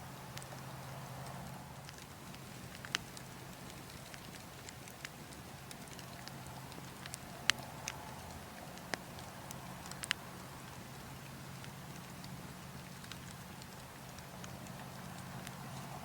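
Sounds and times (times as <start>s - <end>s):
burning logs crackling: 0.0s - 16.0s.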